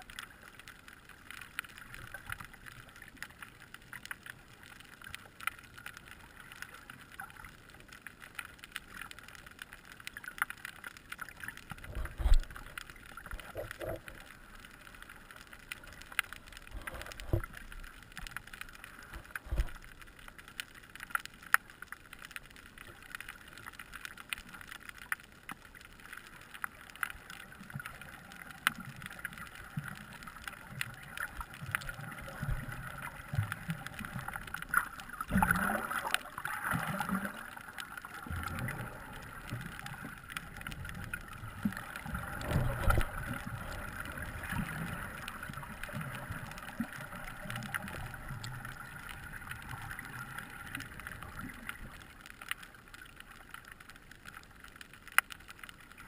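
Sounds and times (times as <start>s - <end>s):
underwater crackle of small clicks: 0.0s - 56.0s.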